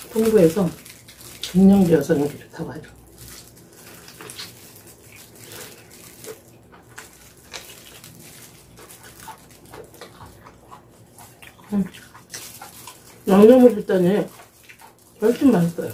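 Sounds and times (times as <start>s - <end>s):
wet chewing mouth clicks: 2.8s - 15.9s.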